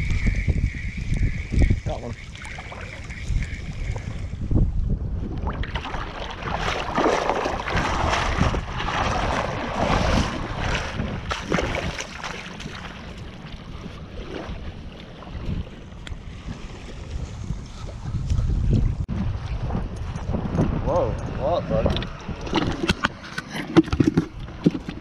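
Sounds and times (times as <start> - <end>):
wind buffeting microphone: 0.0 - 23.3.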